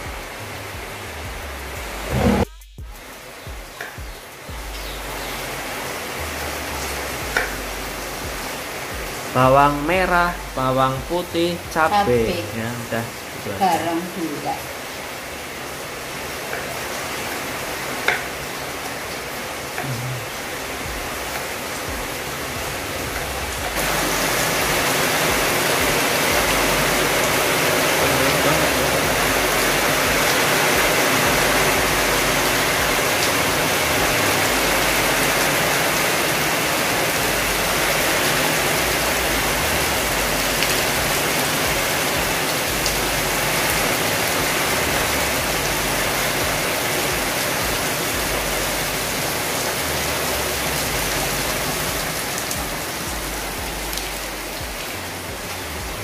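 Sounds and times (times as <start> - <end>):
heavy rain on roofs: 0.0 - 56.0.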